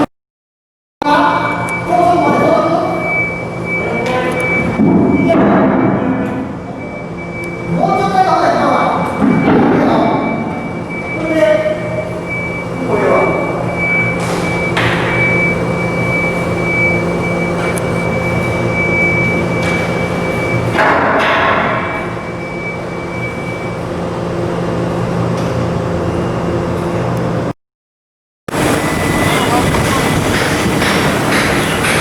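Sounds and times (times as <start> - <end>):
heavy machinery humming and whining: 1.0 - 27.5, 28.5 - 32.0.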